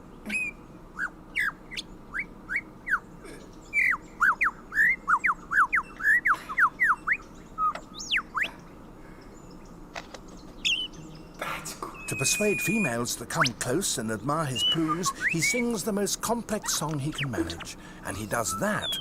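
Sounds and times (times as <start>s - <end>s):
lyrebird whistling notes: 0.3s - 3.1s, 3.7s - 8.5s, 10.6s - 11.2s, 11.9s - 19.0s.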